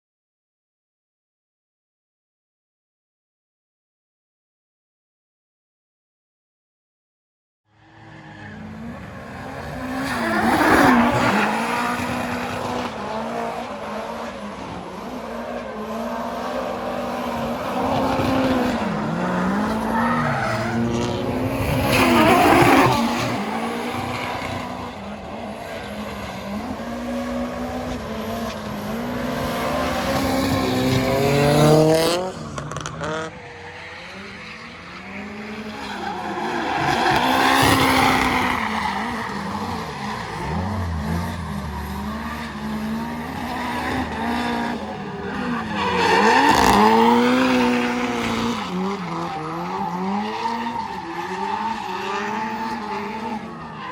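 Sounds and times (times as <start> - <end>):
car engine revving: 8.1 - 53.6.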